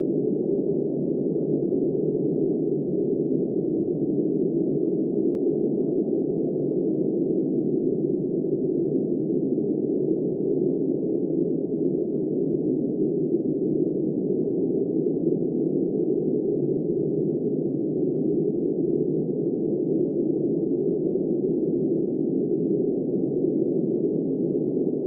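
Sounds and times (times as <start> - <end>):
muffled blizzard wind: 0.0 - 25.0.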